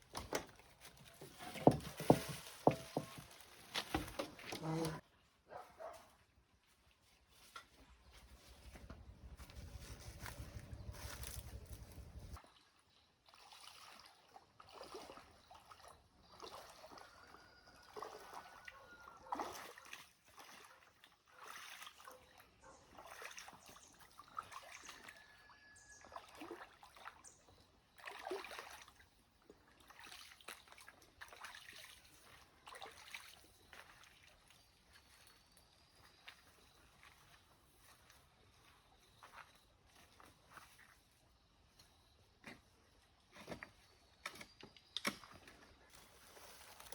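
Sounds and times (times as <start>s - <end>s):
water splashing and trickling: 0.0s - 43.6s.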